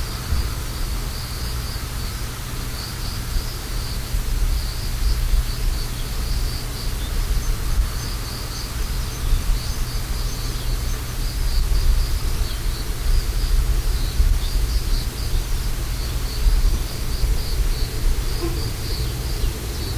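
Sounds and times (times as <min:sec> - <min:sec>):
insects chirping: 0:01.0 - 0:19.9.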